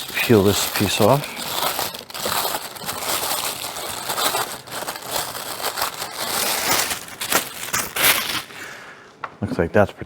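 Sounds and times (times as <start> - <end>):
plastic wrapping peeled off: 0.0 - 8.8.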